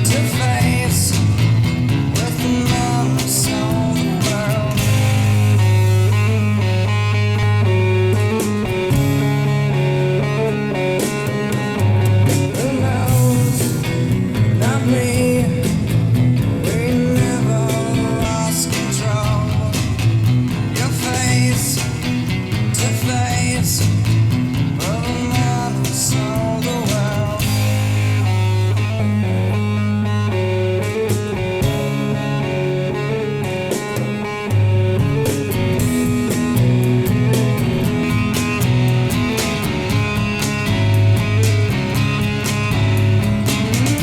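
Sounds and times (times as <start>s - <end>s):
blues-rock music over loudspeakers: 0.0s - 44.0s.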